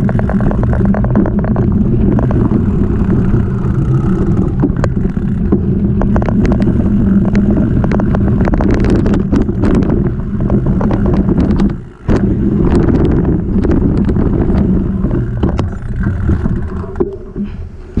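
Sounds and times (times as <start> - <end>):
bike clattering and rattling: 0.0 - 18.0
bike tyres rumbling over wooden planks: 0.0 - 18.0
wind buffeting microphone: 0.0 - 18.0.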